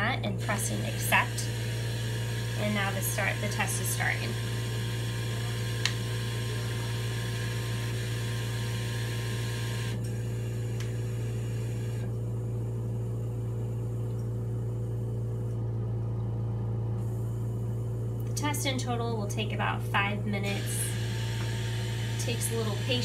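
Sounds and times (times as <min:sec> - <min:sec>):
ventilator machine hum: 0:00.0 - 0:23.0.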